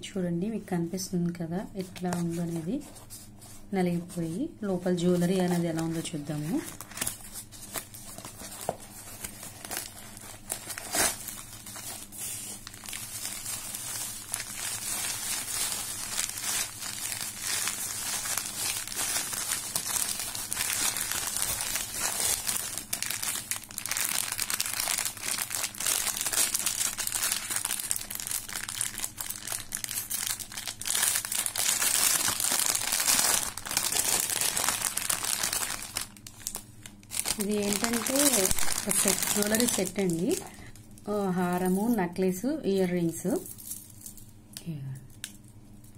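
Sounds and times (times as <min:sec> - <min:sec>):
bubble wrap and plastic rustling: 0:00.9 - 0:45.9.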